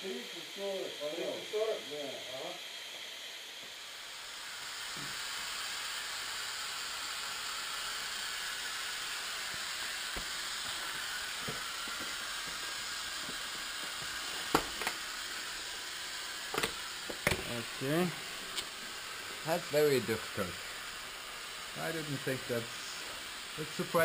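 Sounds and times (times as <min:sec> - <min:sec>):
air hissing through suit: 0:00.0 - 0:24.0.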